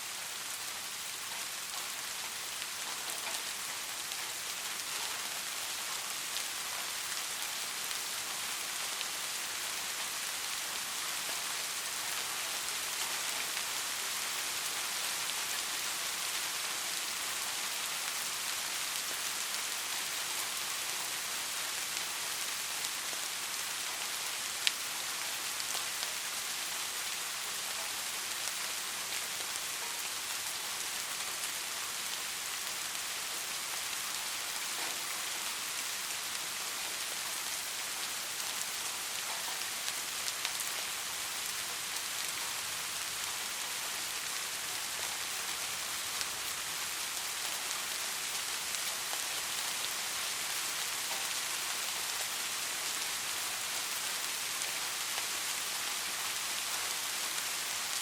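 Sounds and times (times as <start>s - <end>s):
soft rain hiss: 0.0s - 58.0s.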